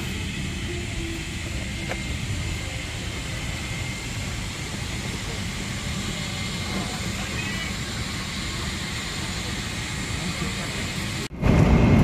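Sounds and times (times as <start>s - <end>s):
jet airliner cabin noise: 0.0s - 12.0s.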